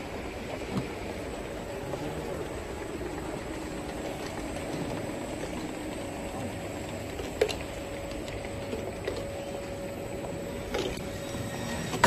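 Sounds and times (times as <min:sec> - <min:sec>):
conveyor and filling machine rumble: 0:00.0 - 0:12.0
faint steady hum: 0:00.0 - 0:12.0.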